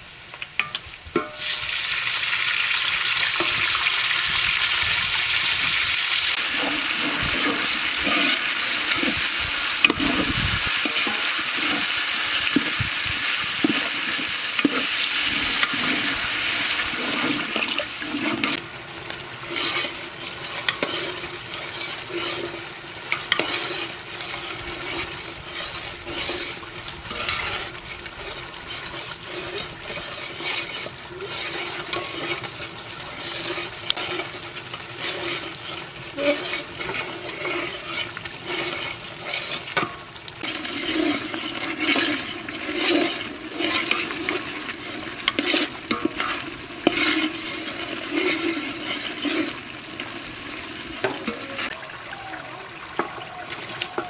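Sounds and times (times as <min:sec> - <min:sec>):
curry sizzling in a pot: 0:00.0 - 0:54.0.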